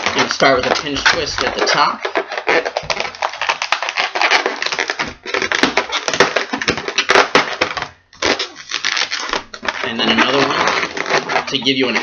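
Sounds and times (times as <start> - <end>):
balloon squeaking and rubbing: 0.0 - 12.0.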